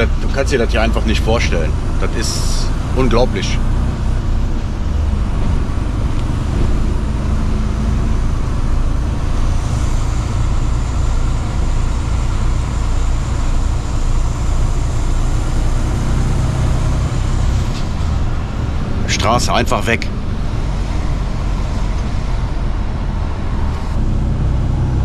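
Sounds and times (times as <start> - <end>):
truck engine drone: 0.0 - 25.0.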